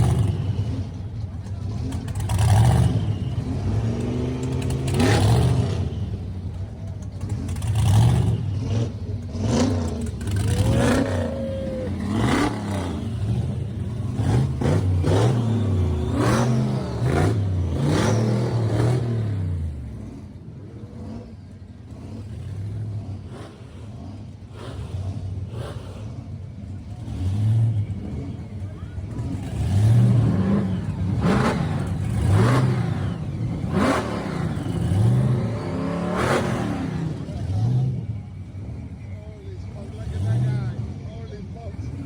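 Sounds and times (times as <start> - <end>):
supercharged engine revving: 0.0 - 39.0.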